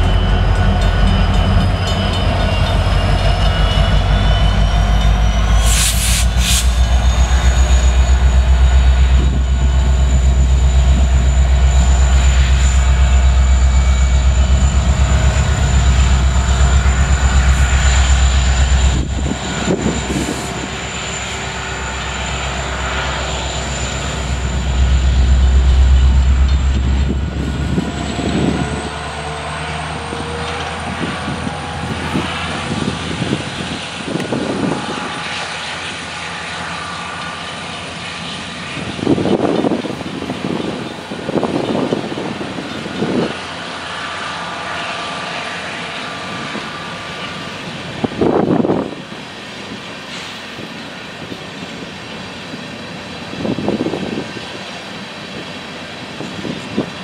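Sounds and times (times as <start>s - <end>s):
high whine: 0.0s - 49.0s
diesel locomotive rumble: 0.0s - 57.0s
rail cars knocking and clanking: 0.0s - 57.0s.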